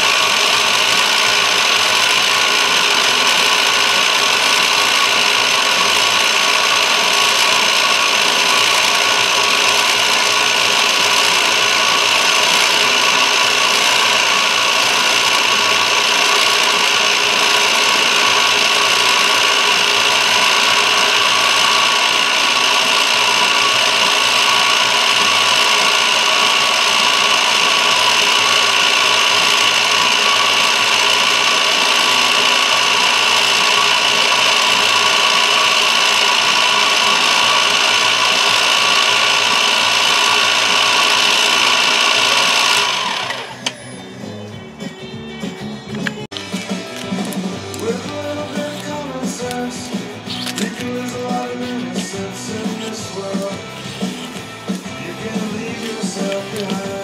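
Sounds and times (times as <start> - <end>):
milling cutter whine: 0.0 - 57.0.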